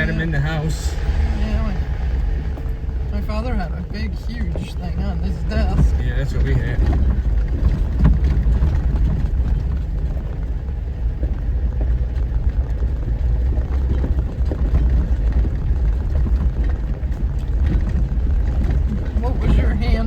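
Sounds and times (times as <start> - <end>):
vehicle rumbling on rough trail: 0.0 - 20.0
small rattles and knocks: 2.2 - 20.0.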